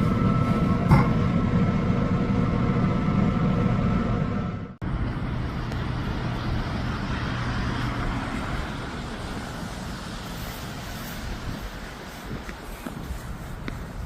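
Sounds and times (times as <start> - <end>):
traffic rushing noise: 0.0 - 14.0
vehicle low hum: 0.0 - 14.0.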